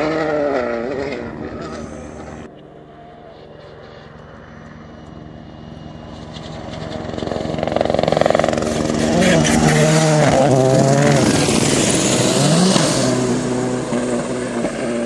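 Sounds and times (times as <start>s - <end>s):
rally car passing by: 0.0s - 4.7s, 6.0s - 15.0s.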